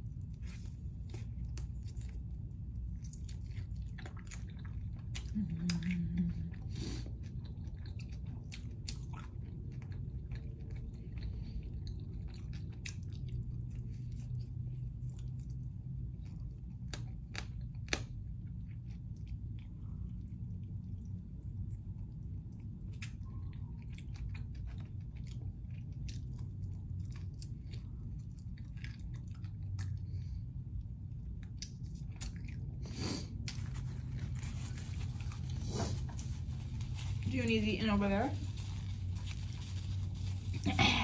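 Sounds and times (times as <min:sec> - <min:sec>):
person chewing: 0:00.0 - 0:37.2
steady low hum: 0:00.0 - 0:41.0.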